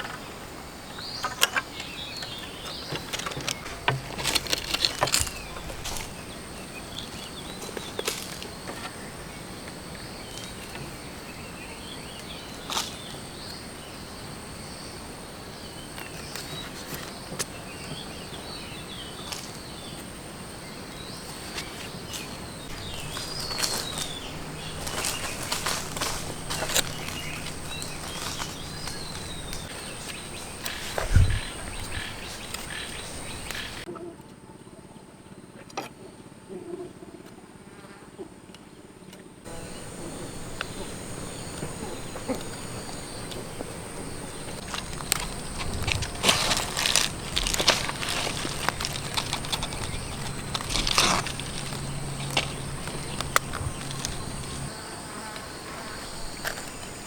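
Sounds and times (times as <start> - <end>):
birds chirping: 0.0 - 33.9, 39.5 - 57.0
high-pitched insect tone: 0.9 - 33.9, 39.5 - 57.0.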